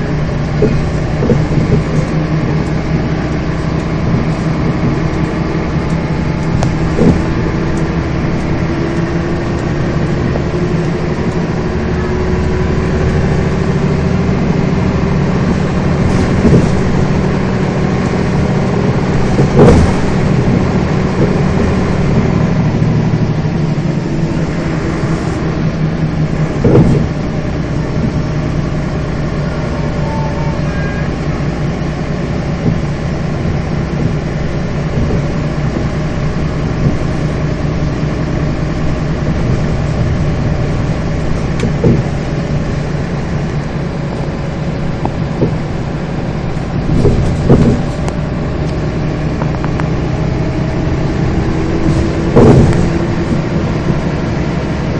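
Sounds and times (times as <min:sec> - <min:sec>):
bus engine running: 0:00.0 - 0:54.9
short knocks: 0:00.2 - 0:30.0, 0:32.4 - 0:43.4, 0:44.7 - 0:54.8.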